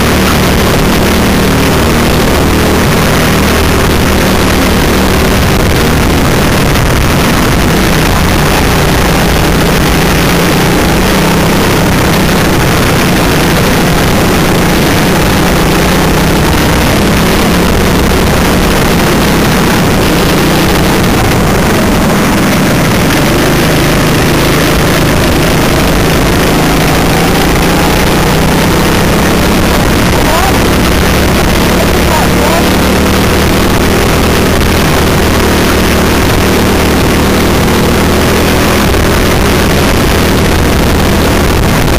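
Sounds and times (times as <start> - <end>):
kart engine revving: 0.0 - 41.9.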